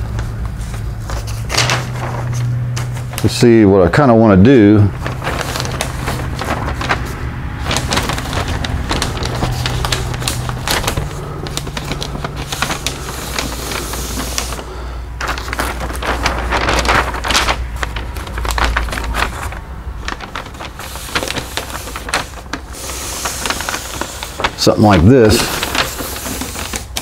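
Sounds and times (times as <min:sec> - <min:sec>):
fan humming: 0:00.0 - 0:27.0
paper rustling and crinkling: 0:00.0 - 0:27.0.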